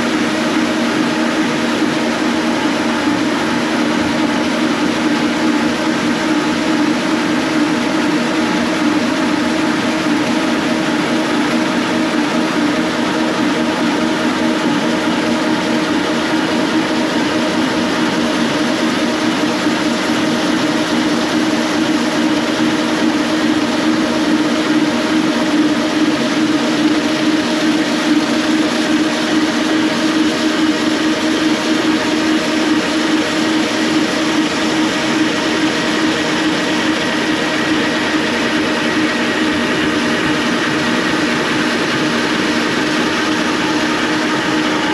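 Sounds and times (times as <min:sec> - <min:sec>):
floor grinder droning: 0:00.0 - 0:44.9.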